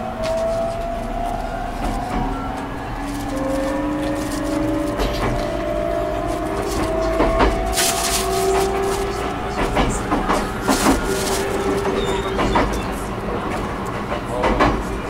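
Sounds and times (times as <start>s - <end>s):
train inverter whine: 0.0s - 15.0s
wheels clacking over rail joints: 0.0s - 15.0s.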